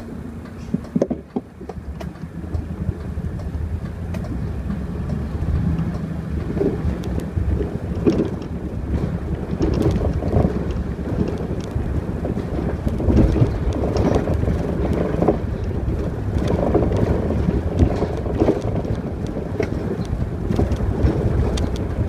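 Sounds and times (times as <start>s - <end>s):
bus engine idling and accelerating: 0.0s - 22.0s.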